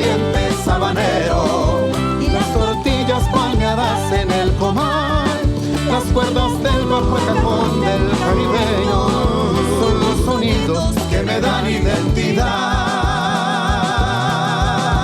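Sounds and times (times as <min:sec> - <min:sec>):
folk song with bass line: 0:00.0 - 0:15.0.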